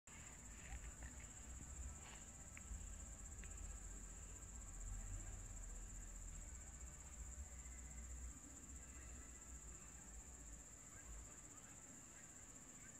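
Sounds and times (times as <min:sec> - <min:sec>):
faint low rumble: 0:00.1 - 0:11.6
crickets chirping: 0:00.1 - 0:12.9.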